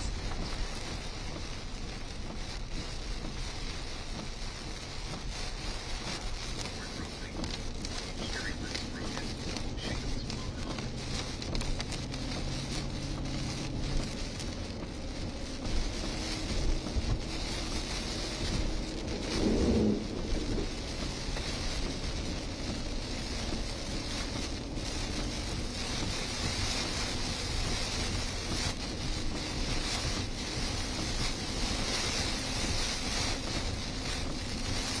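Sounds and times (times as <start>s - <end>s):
heavy rain on vehicle: 0.0s - 35.0s
tyre hiss on wet road: 0.0s - 35.0s
wind: 0.0s - 35.0s.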